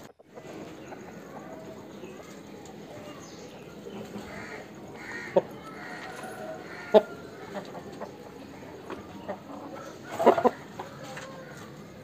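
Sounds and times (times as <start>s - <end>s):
harsh bird calls: 0.0s - 12.0s.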